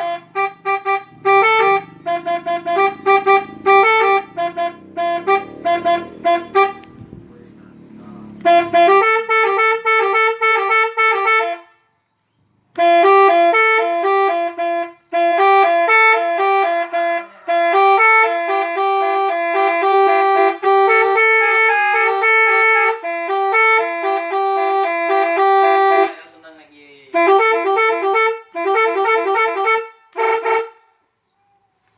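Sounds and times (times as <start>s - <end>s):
multi-tone horn melody: 0.0s - 12.0s, 12.7s - 31.0s.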